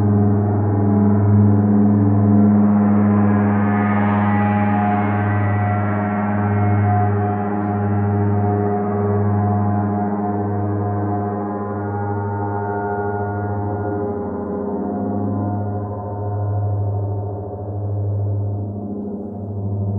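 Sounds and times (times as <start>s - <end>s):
gong friction drone: 0.0s - 19.9s.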